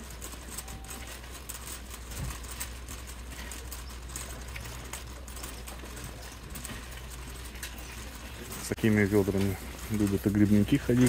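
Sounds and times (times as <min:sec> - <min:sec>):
shopping cart rattling: 0:00.0 - 0:11.0
steady low hum: 0:00.0 - 0:11.0.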